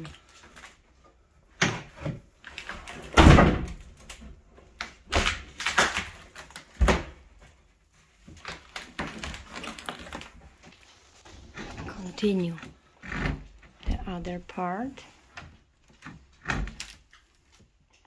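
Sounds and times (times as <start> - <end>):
countertop cracking and thumping: 1.5 - 14.4, 15.3 - 17.7.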